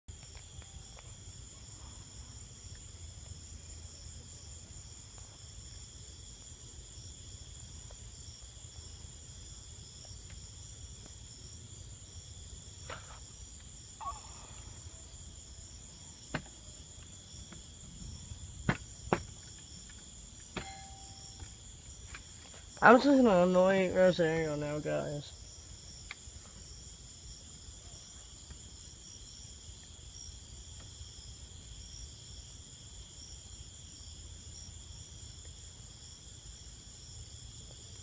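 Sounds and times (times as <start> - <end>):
crickets chirping: 0.1 - 38.0.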